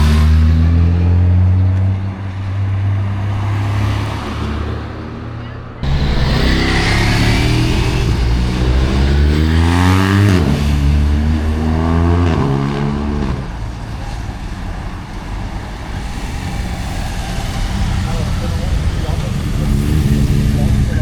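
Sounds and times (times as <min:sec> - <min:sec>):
engine accelerating through gears: 0:00.0 - 0:21.0
steady rushing noise: 0:02.0 - 0:21.0.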